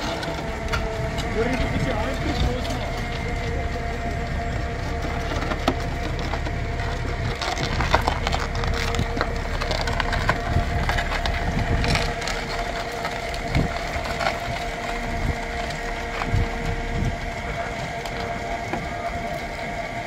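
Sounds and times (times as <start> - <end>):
fire crackling and popping: 0.0 - 20.0
low rumble: 0.0 - 20.0.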